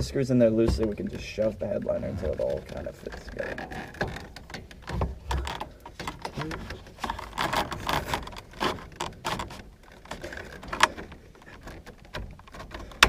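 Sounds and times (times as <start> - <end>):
plastic panel clicking and rustling: 1.8 - 13.0.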